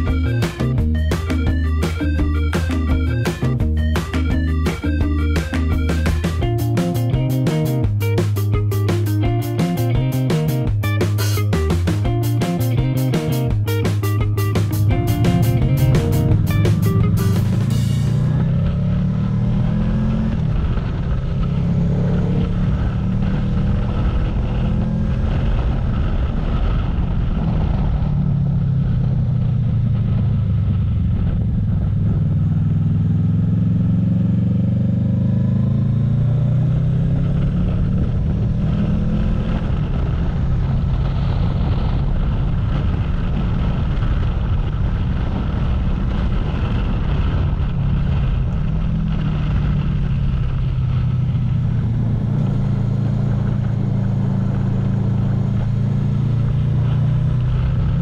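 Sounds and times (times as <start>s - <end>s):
heavy wind noise: 0.0s - 33.8s, 35.5s - 58.0s
motorcycle engine running: 0.0s - 58.0s.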